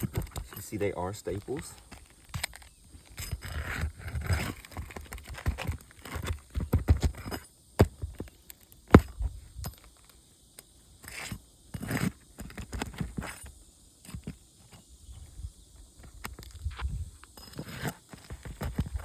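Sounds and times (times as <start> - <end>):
tool scraping under roof shingle: 0.0 - 10.0, 11.0 - 14.9, 16.0 - 19.0.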